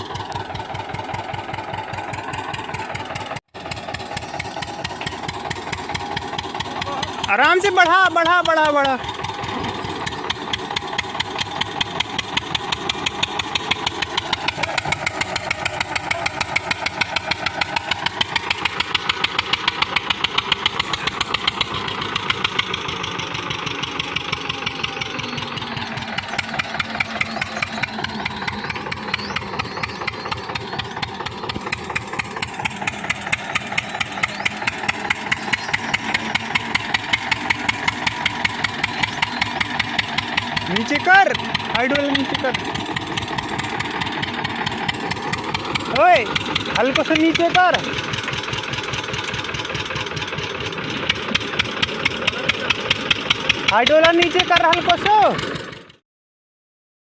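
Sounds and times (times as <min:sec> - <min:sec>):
diesel tractor engine chugging: 0:00.0 - 0:56.0.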